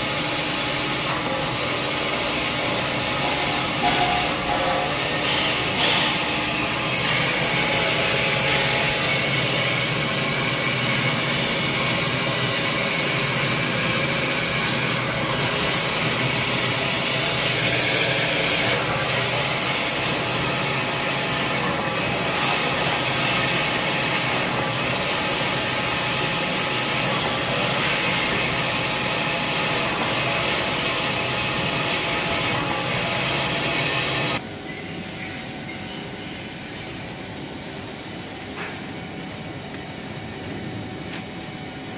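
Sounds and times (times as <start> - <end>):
band saw cutting paper log: 0.0 - 34.4.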